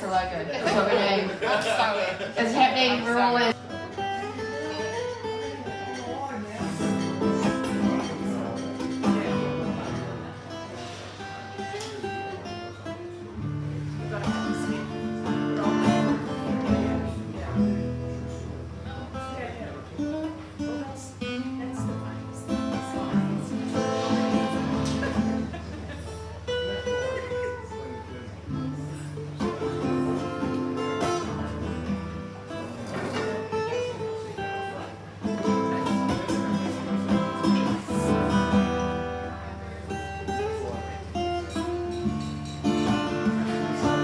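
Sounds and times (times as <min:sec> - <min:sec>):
acoustic guitar chords: 0:00.0 - 0:44.0.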